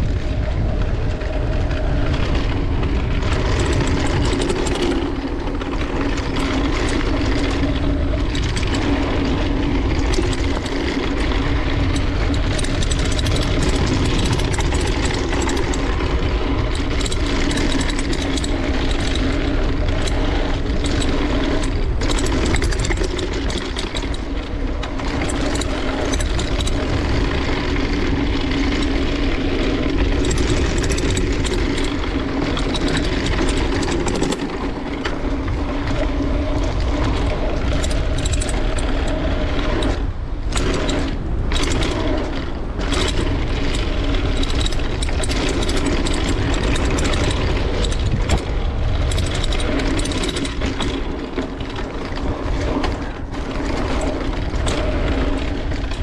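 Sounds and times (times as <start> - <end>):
bike rattling over bumps: 0.0 - 56.0
bike tyres on dirt: 0.0 - 56.0
wind rushing over microphone: 0.0 - 56.0.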